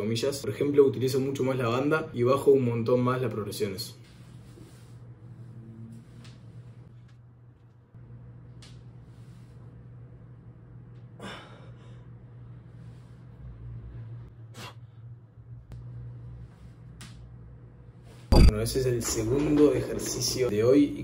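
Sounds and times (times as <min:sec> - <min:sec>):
low hum: 0:02.1 - 0:21.0.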